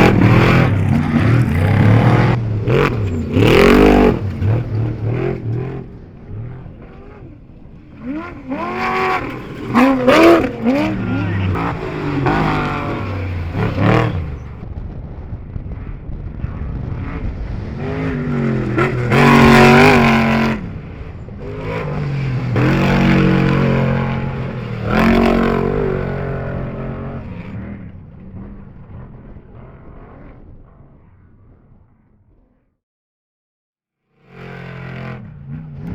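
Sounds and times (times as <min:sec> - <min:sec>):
off-road vehicles revving past: 0:00.0 - 0:14.6, 0:16.6 - 0:30.9, 0:34.2 - 0:35.9.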